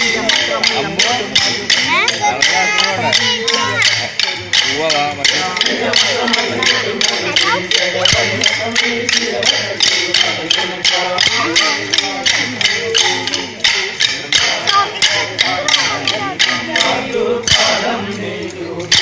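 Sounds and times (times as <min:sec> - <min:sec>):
men singing: 0:00.0 - 0:19.0
wooden sticks clacking: 0:00.0 - 0:19.0.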